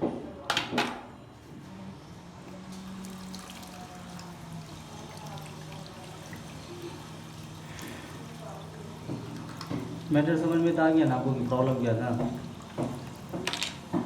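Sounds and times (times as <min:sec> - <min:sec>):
water trickling in toilet cistern: 0:02.6 - 0:14.0.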